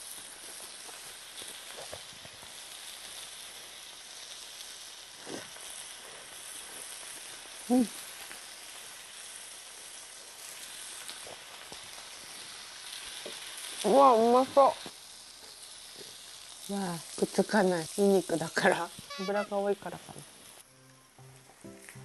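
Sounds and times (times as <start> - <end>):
meat sizzling on grill: 0.0 - 22.0.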